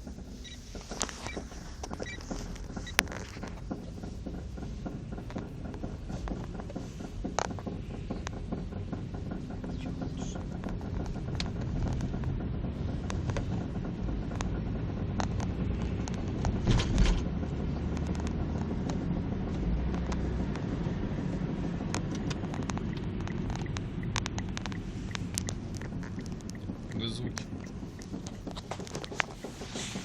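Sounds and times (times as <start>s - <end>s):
car driving low rumble: 0.0s - 30.0s.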